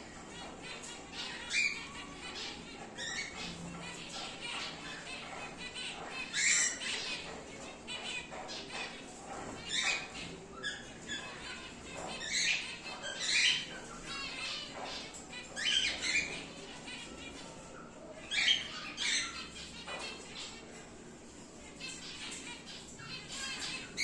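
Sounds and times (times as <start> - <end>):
cockatiels chirping and squawking: 0.0 - 24.0.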